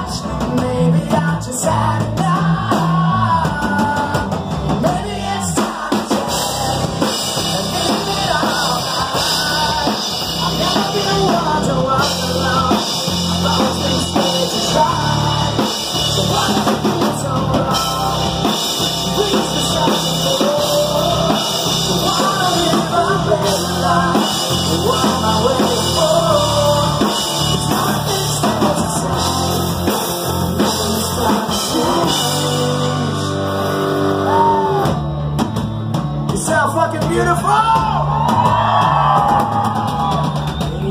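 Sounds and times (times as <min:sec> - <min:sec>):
person singing: 0:00.0 - 0:35.0
electric guitar: 0:00.0 - 0:36.3
bass guitar: 0:00.0 - 0:40.9
drum kit: 0:00.0 - 0:40.9.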